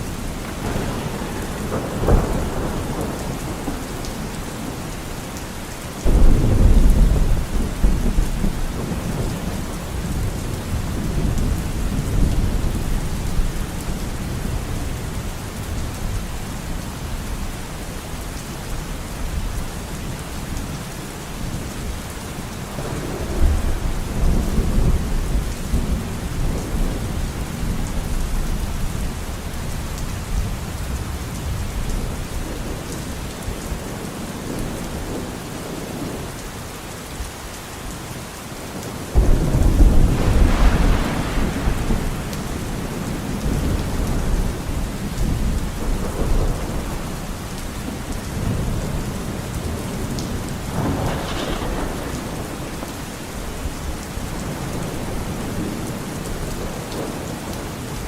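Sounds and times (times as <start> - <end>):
rumble of thunder: 0.0 - 17.5, 22.5 - 36.2, 38.8 - 57.7
steady rain falling: 0.0 - 58.0.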